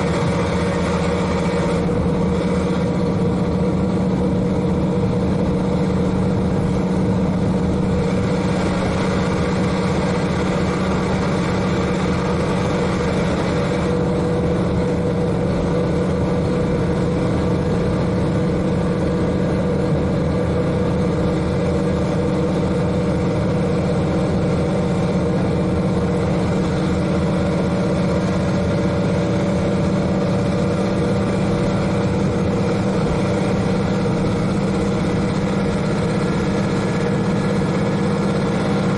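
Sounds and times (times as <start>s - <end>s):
diesel engine running steadily: 0.0s - 38.9s
railcar running noise: 0.0s - 38.9s.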